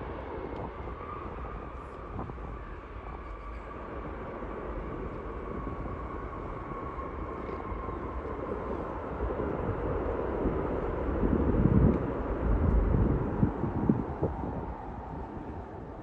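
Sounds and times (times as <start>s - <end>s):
faint whine sliding down: 0.0s - 15.7s
jet engines rumbling: 0.0s - 16.0s.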